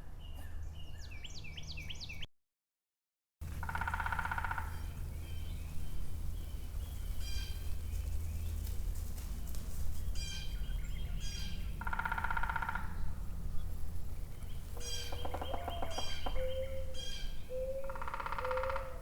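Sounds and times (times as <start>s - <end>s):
birds chirping: 3.4s - 19.0s.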